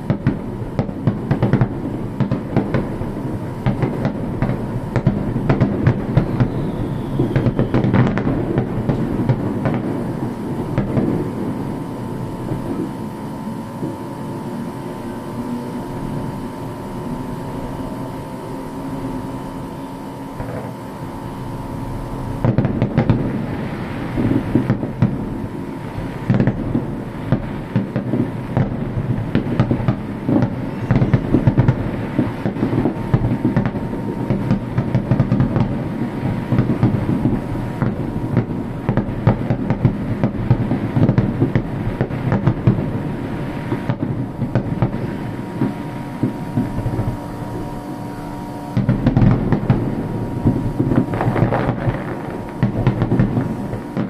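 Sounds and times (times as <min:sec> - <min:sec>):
fireworks bangs and crackles: 0:00.0 - 0:18.9, 0:19.9 - 0:54.0
faint hum: 0:00.0 - 0:54.0
steady rumble: 0:00.0 - 0:54.0.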